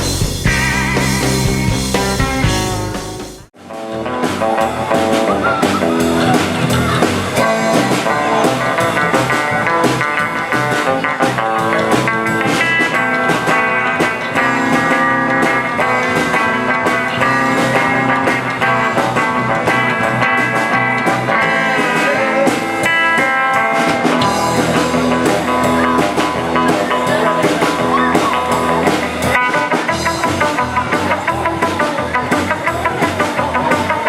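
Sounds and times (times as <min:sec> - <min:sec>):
rockabilly band music: 0:00.0 - 0:34.0.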